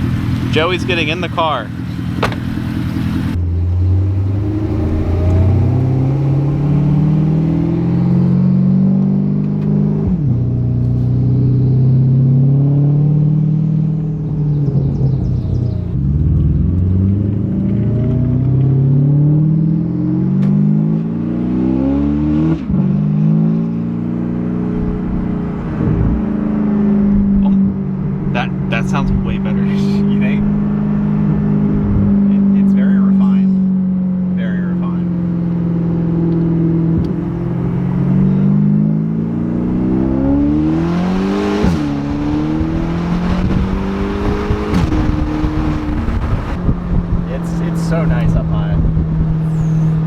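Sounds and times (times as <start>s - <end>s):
car engine accelerating through gears: 0.0s - 50.0s.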